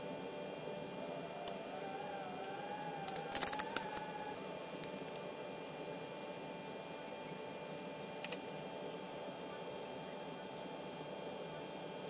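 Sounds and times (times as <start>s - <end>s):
background hum: 0.0s - 11.6s.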